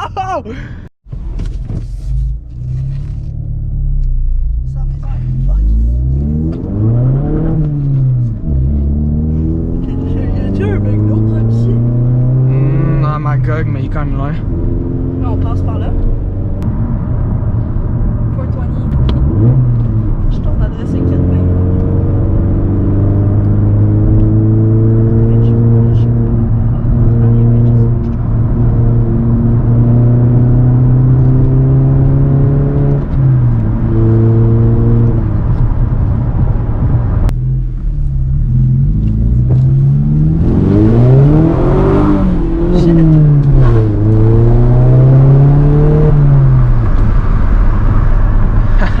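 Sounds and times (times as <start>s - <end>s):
road noise: 0.0s - 49.0s
car engine accelerating: 1.1s - 49.0s.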